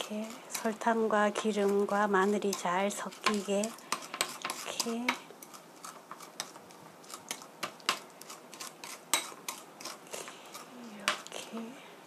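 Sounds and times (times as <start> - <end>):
metal spoon scraping ceramic bowl: 0.0 - 11.4.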